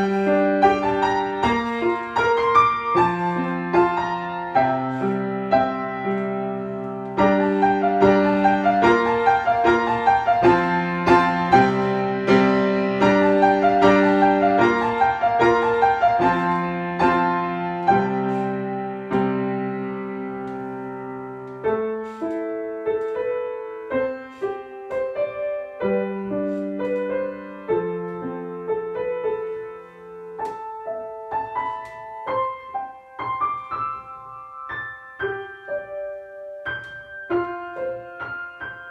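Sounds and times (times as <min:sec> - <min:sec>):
piano music: 0:00.0 - 0:38.9.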